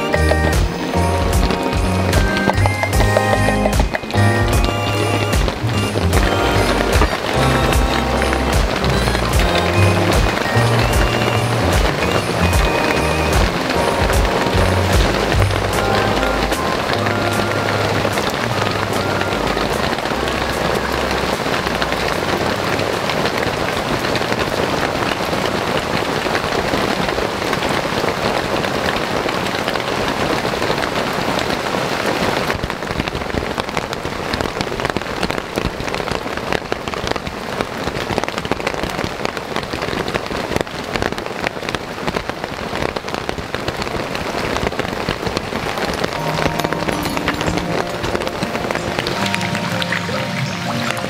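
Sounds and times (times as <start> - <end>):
rain pattering on tarp: 0.0 - 51.0.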